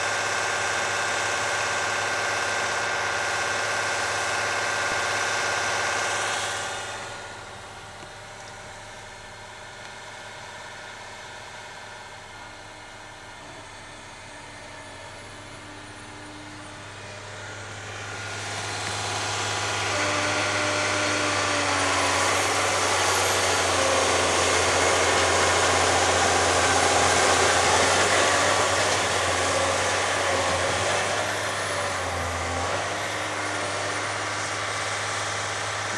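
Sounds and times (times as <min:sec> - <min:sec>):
heavy machine idling hum: 0:00.2 - 0:35.9.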